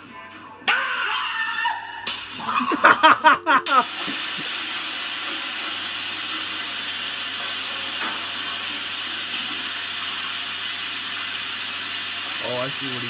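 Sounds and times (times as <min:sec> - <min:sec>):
steady hiss: 0:02.2 - 0:13.0.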